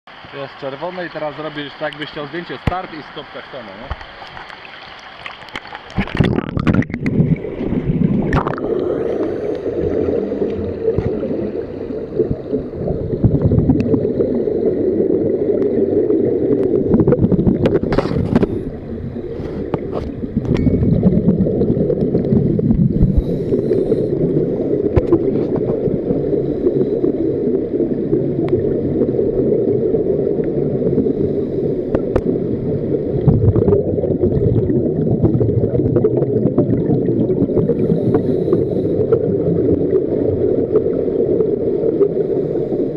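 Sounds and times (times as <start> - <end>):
underwater low rush: 0.1 - 42.9
bubbles gurgling: 0.8 - 42.9.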